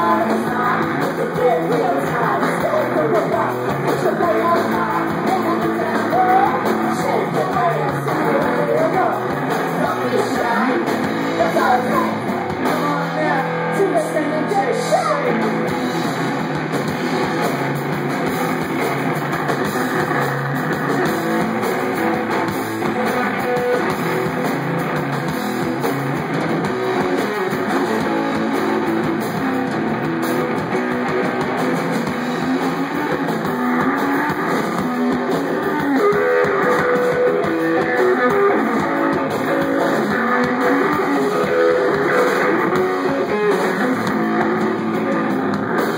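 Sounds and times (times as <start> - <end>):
live rock band with electric guitar: 0.0 - 45.9.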